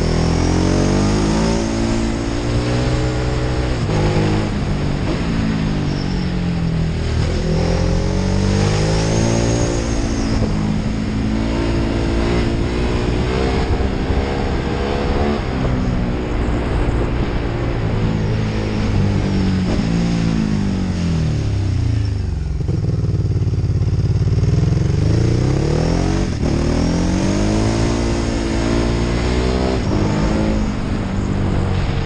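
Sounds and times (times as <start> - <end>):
motorcycle engine accelerating: 0.0 - 32.0
wind and road noise: 0.0 - 32.0.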